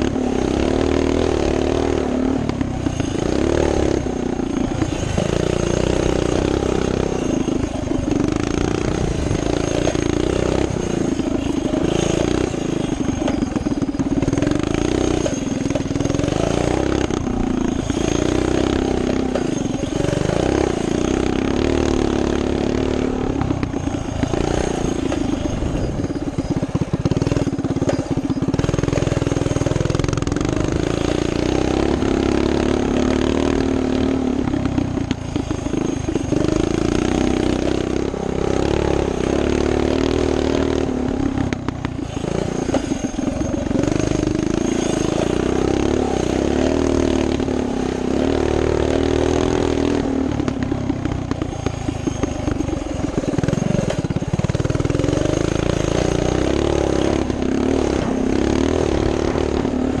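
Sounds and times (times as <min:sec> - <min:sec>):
minibike engine running hard: 0:00.0 - 1:00.0
rattles over bumps: 0:00.0 - 1:00.0.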